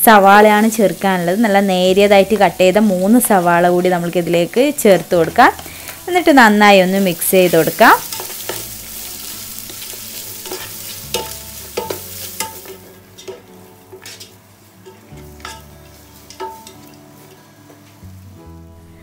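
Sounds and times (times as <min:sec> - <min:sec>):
onions sizzling in oil: 0:00.0 - 0:19.0.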